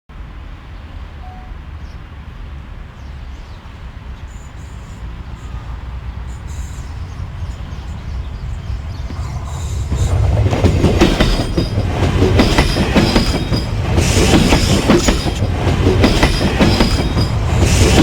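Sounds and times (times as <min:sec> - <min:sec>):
train rumbling on rails: 0:00.1 - 0:18.0.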